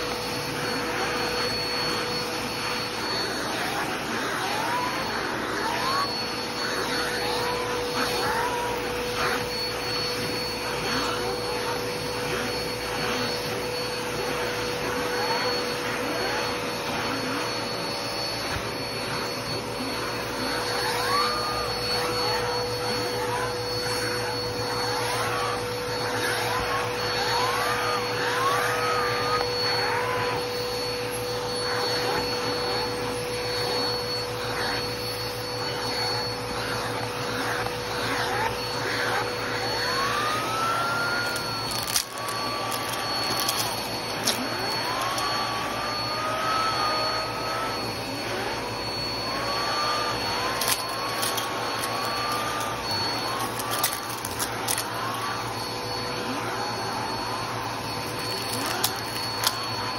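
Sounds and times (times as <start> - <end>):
vacuum cleaner whirring: 0.0 - 59.9
vacuum nozzle whistling: 0.0 - 59.9.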